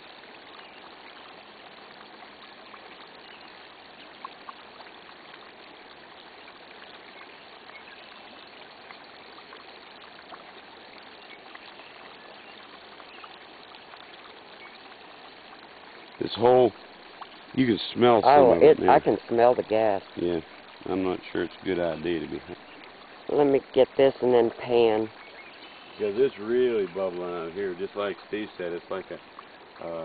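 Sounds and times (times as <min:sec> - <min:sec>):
creek water trickling: 0:00.0 - 0:30.0
gas bubbling and popping in water: 0:00.0 - 0:30.0.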